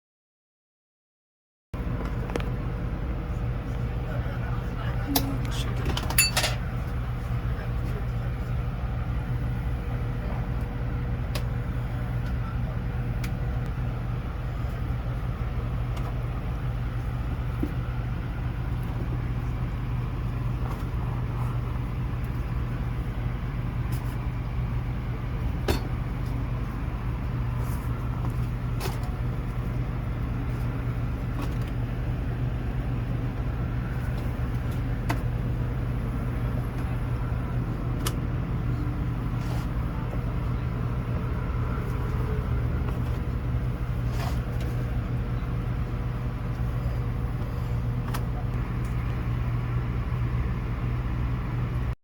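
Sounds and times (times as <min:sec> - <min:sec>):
engine humming: 0:01.8 - 0:52.0.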